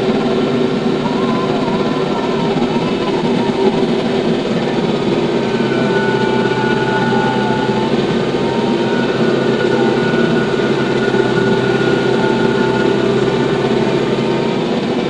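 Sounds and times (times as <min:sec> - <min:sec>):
steady whining tones: 0:00.0 - 0:15.0
tractor engine droning: 0:00.0 - 0:15.0.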